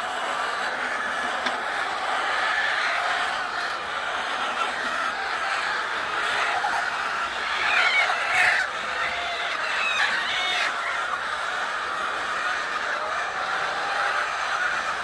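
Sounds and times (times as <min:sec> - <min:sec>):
hens clucking: 0:00.0 - 0:15.0
hens squawking: 0:00.0 - 0:15.0.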